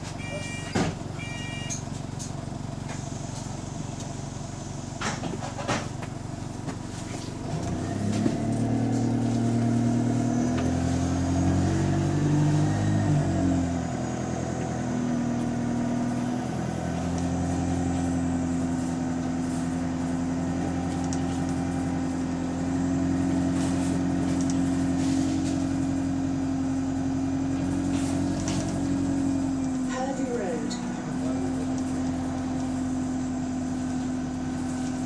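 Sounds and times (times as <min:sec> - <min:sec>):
bus engine humming: 0:00.0 - 0:35.0.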